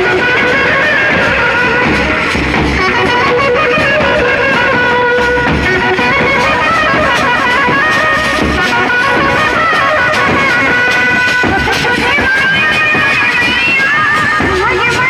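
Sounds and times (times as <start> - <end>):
bass drum beating: 0.0 - 13.5
brass band playing: 0.0 - 15.0.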